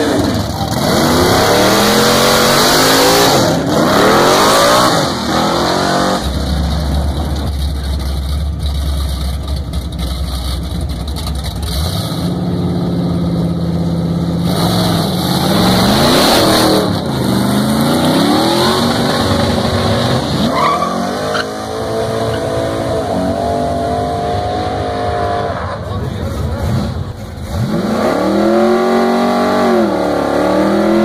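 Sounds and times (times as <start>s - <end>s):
second car engine revving high: 0.0s - 7.5s, 11.6s - 31.0s
car engine revving: 0.0s - 31.0s.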